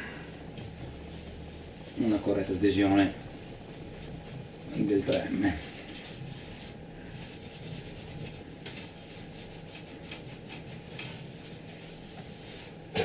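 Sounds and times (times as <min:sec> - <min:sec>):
cloth rubbing print bed: 0:00.0 - 0:13.0.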